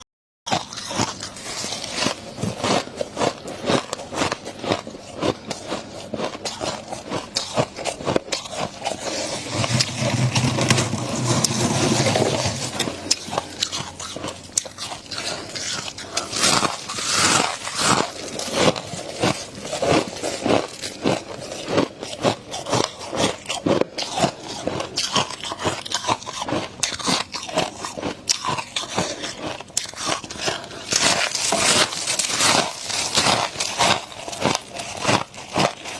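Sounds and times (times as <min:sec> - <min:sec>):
crunchy chewing of frost: 0:00.5 - 0:35.9.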